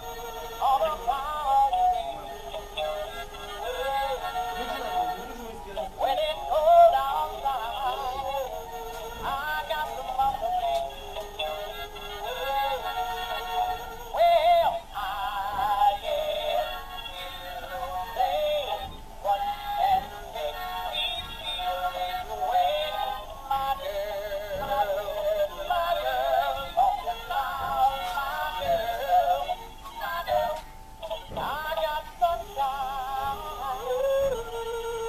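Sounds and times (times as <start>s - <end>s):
backing music through small speaker: 0.0s - 35.0s
toy electronic voice singing: 0.0s - 35.0s.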